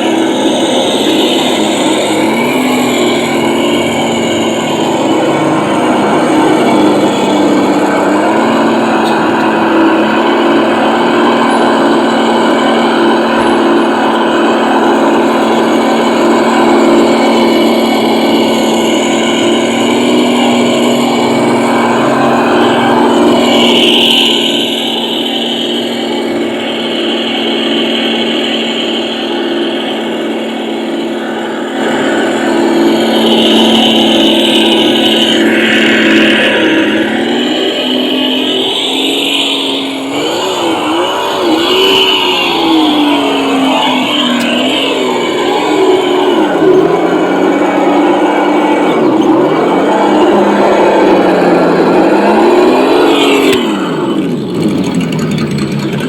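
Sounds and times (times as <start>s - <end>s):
higher whine: 0.0s - 56.0s
remote-control car buzzing drone: 0.0s - 56.0s
simulated engine sound: 0.0s - 56.0s.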